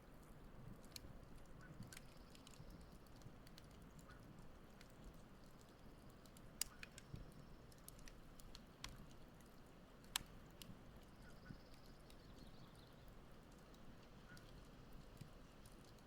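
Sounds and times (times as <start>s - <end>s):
campfire crackling and popping: 0.2s - 16.0s.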